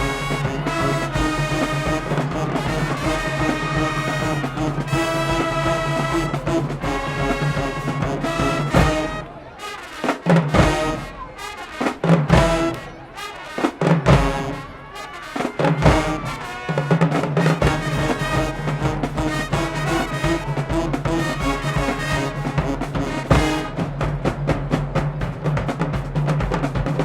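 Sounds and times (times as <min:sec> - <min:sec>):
drum hits: 0:00.0 - 0:09.3, 0:10.4 - 0:11.1, 0:12.2 - 0:12.8, 0:14.0 - 0:14.6, 0:15.7 - 0:16.4, 0:17.1 - 0:27.0
short brass stabs: 0:00.0 - 0:24.0
brass chords: 0:00.0 - 0:24.5.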